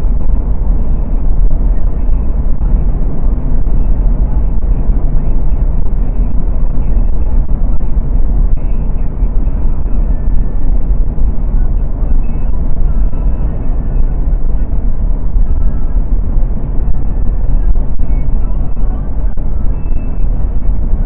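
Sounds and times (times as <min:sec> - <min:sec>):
car interior road rumble: 0:00.0 - 0:21.0.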